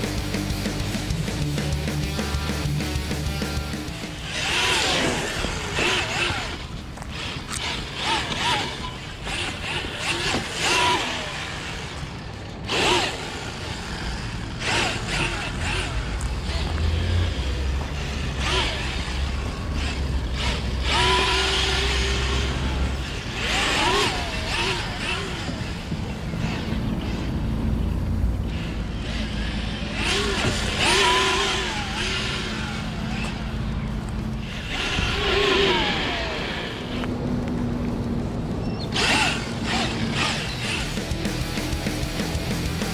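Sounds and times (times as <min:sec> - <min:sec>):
electric motor whining: 0:00.0 - 0:42.9.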